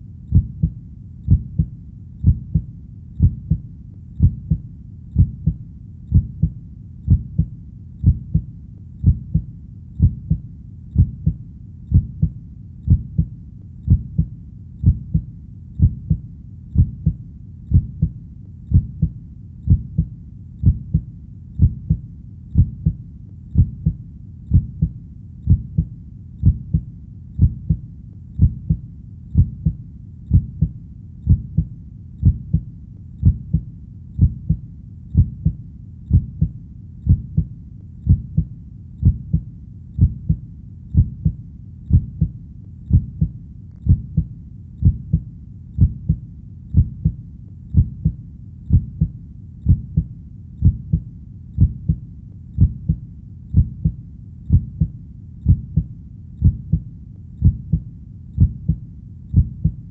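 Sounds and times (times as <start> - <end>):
heartbeat thumps: 0.3 - 52.0, 52.6 - 59.9.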